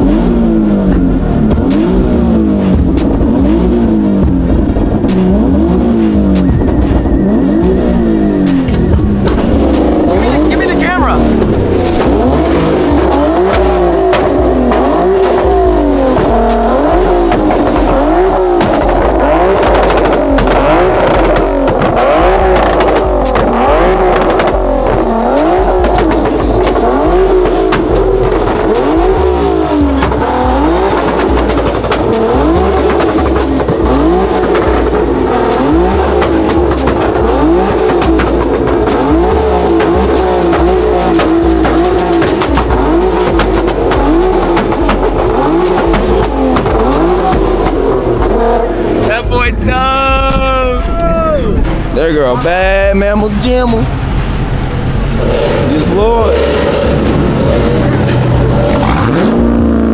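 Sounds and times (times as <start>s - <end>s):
car engine revving: 0.0s - 59.9s
music with heavy bass: 0.0s - 59.9s
tires squealing: 0.0s - 59.9s.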